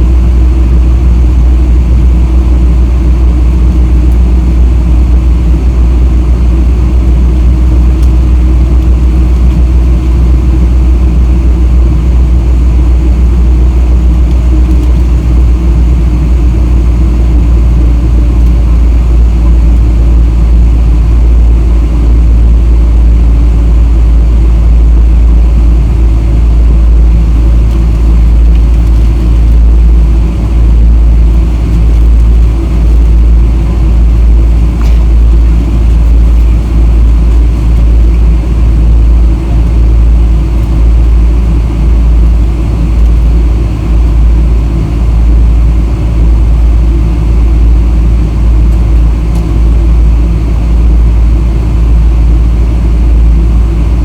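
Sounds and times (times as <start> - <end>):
airliner taxiing rumble: 0.0 - 54.0.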